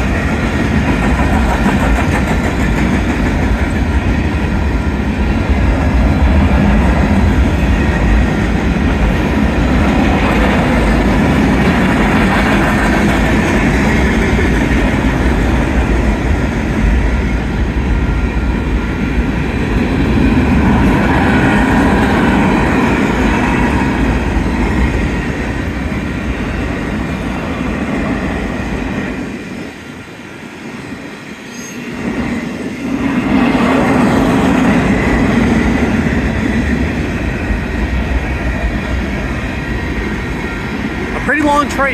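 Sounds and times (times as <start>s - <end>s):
freight train cars rolling past: 0.0s - 41.9s.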